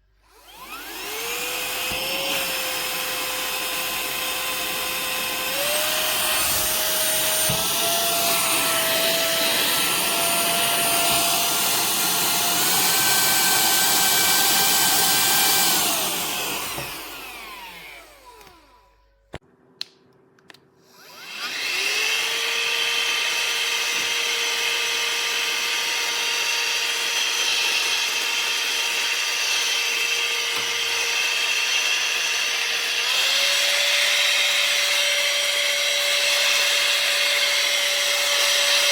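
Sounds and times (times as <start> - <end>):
vacuum blower motor whine: 0.0 - 19.2, 20.9 - 38.9.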